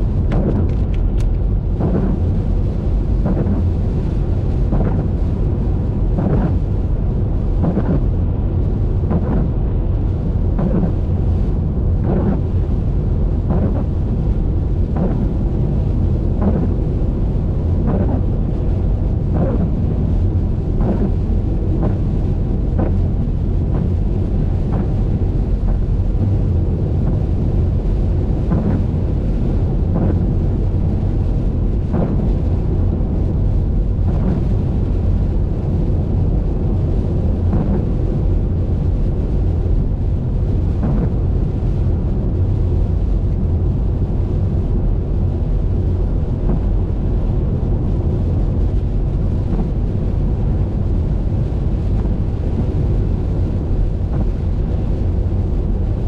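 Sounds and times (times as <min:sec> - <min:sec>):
road and wind noise rumble: 0:00.0 - 0:56.0.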